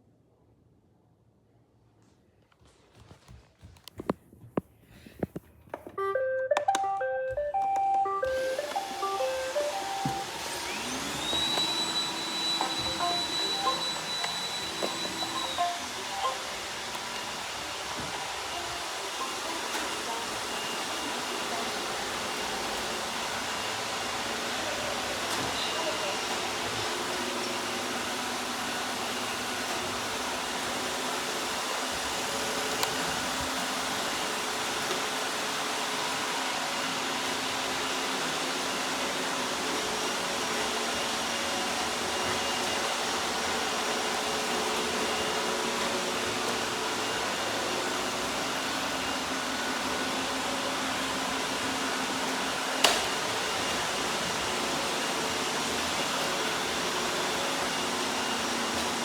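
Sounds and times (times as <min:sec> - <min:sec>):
robot vacuum whirring: 0:08.2 - 0:59.0.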